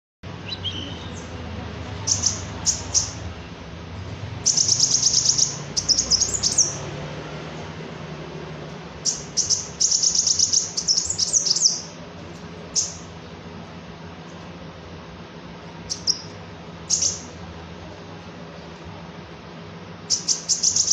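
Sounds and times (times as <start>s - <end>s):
faint low hum: 0.3s - 20.9s
songbird chirping and trilling: 0.3s - 20.9s.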